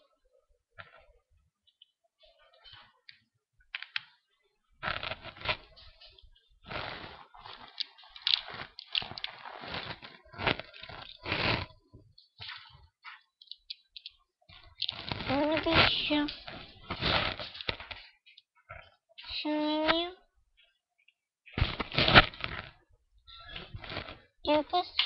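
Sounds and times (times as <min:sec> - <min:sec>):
crunching and scraping handling noise: 0:03.8 - 0:20.8, 0:21.4 - 0:25.0.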